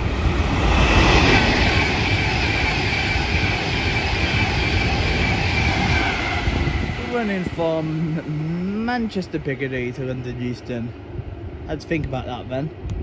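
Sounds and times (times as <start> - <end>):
faint high whine: 0.0 - 12.7
train rushing past: 0.0 - 12.9.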